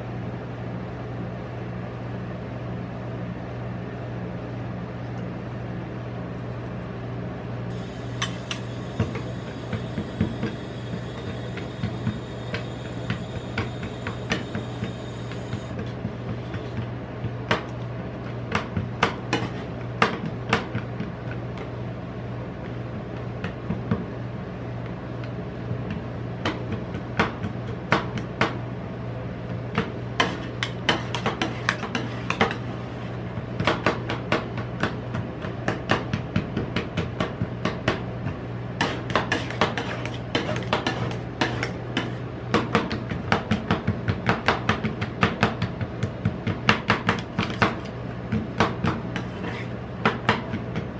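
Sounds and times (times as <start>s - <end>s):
low refrigeration hum: 0.0s - 50.9s.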